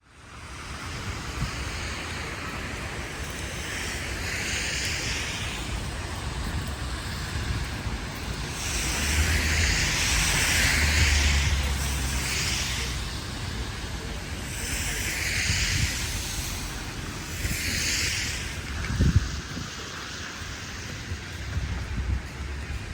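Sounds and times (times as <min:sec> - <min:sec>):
low traffic rumble: 0:00.0 - 0:22.9
tyre hiss on wet road: 0:00.0 - 0:22.9.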